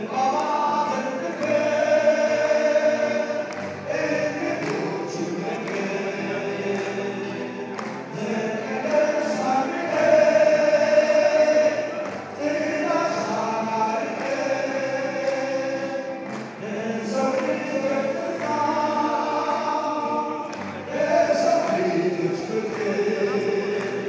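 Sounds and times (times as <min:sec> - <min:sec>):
group of voices singing: 0:00.0 - 0:24.0
listeners clapping along: 0:00.0 - 0:24.0
man singing lead: 0:00.0 - 0:24.0.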